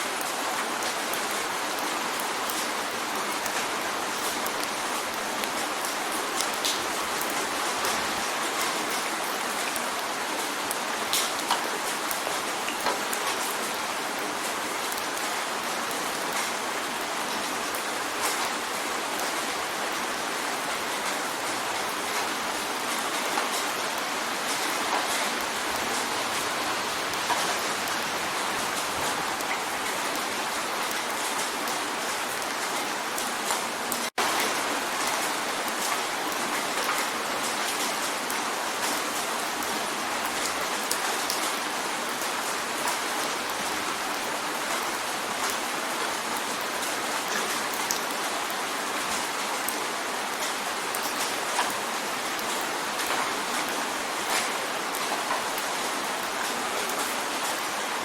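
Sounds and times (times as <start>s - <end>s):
rain hissing on window: 0.0s - 58.0s.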